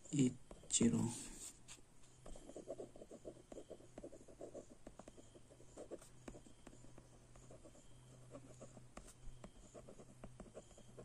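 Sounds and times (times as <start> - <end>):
pen scratching on paper: 1.4 - 11.0.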